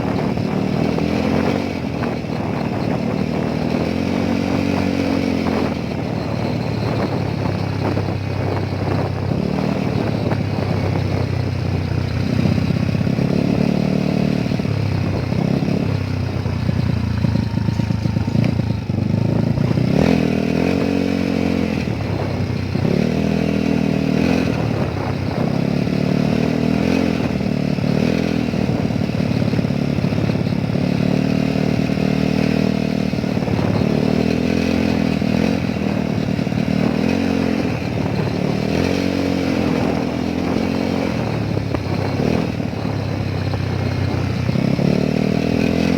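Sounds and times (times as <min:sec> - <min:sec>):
motorcycle engine revving: 0:00.0 - 0:45.9
road and wind noise: 0:00.0 - 0:45.9.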